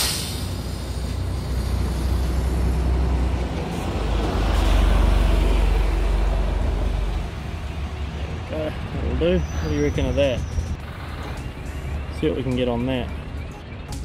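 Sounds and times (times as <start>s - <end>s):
heavy vehicle passing: 0.0s - 12.2s
rumble of passing traffic: 0.0s - 14.0s.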